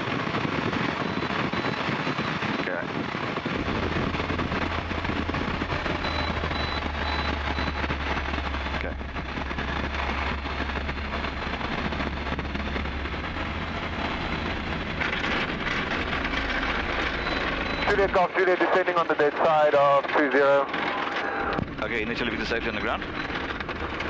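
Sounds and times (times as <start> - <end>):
aircraft engine at low power: 0.0 - 24.0
wheels rumbling on runway: 0.0 - 24.0
steady low hum: 0.1 - 24.0.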